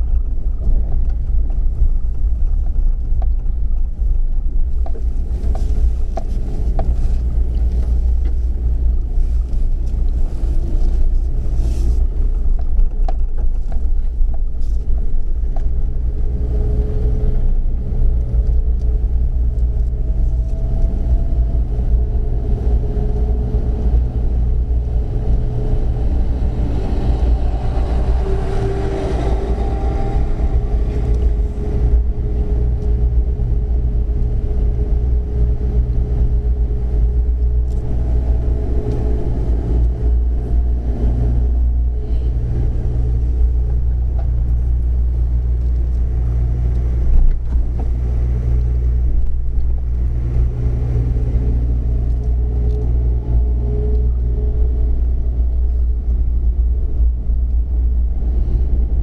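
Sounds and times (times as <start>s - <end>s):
constant hum: 0.0s - 59.0s
low engine rumble: 0.0s - 59.0s.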